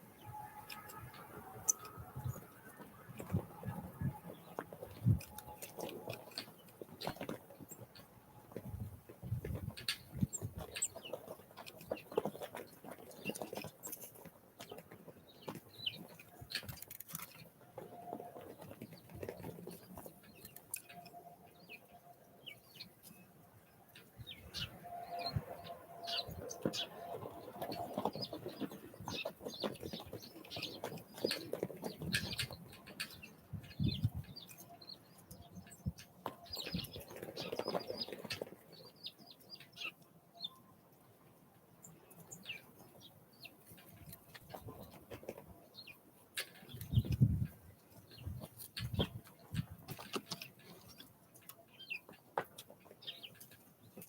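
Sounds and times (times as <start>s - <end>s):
small birds chirping: 0.1s - 40.8s, 41.8s - 54.0s.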